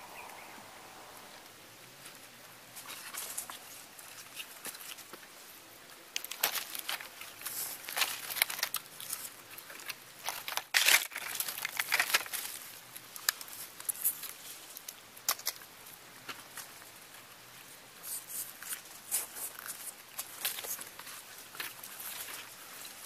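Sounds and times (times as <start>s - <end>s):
dry leaves rustling and crackling: 2.0s - 23.0s.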